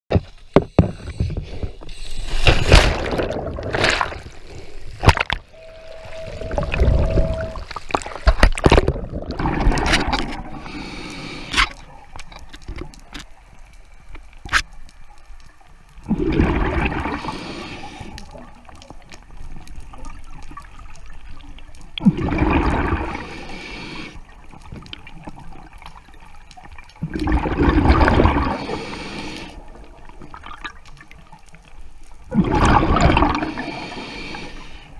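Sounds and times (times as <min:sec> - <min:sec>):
underwater exhaled bubbles: 0:01.9 - 0:12.2, 0:16.0 - 0:34.9.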